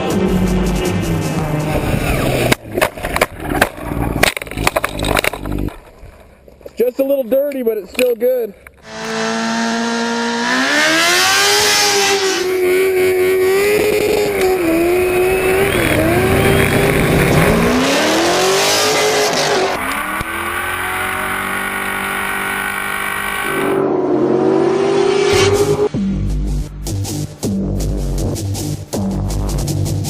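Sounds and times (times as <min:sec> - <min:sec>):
car engine revving: 0:00.0 - 0:05.8, 0:08.8 - 0:28.4.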